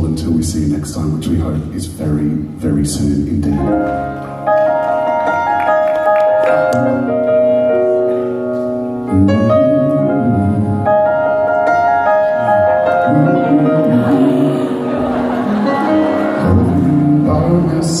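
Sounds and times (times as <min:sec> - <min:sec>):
live band playing sustained chords: 0:03.0 - 0:18.0.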